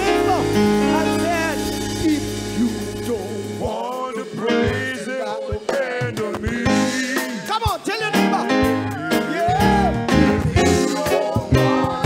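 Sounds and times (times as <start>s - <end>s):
instrumental accompaniment: 0.0s - 12.0s
man singing into a microphone: 0.0s - 12.0s.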